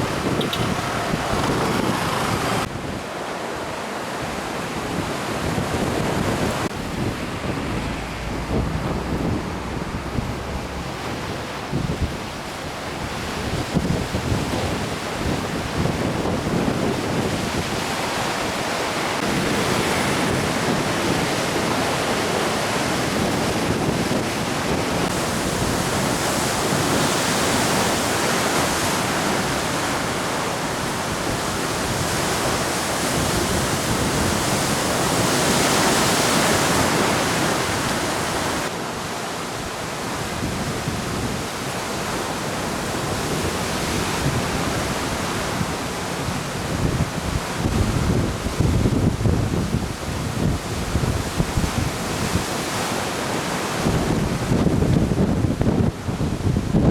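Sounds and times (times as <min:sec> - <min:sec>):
wind on microphone: 0:00.0 - 0:03.2, 0:04.2 - 0:38.8, 0:39.5 - 0:56.9
sea surf washing on shore: 0:00.0 - 0:56.9.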